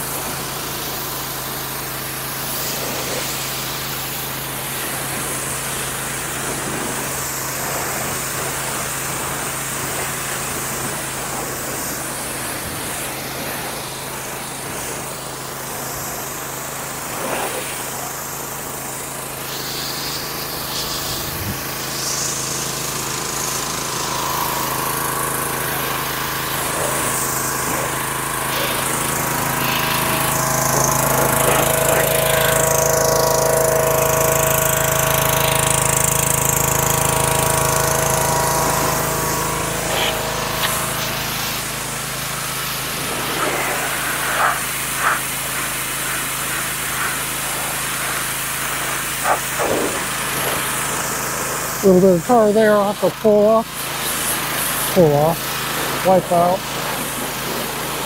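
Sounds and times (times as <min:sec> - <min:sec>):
pressure washer motor drone: 0:00.0 - 0:58.0
spray hissing: 0:02.4 - 0:53.1.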